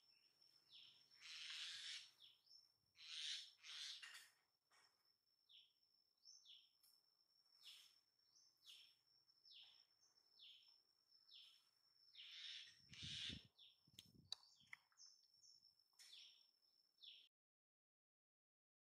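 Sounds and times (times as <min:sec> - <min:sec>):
bird chirps: 0:00.0 - 0:04.9, 0:05.5 - 0:17.3.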